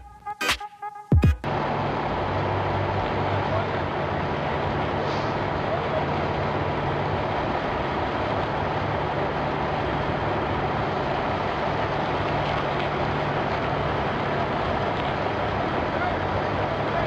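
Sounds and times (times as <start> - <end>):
road noise: 0.0 - 17.0
truck engine running: 1.4 - 17.0.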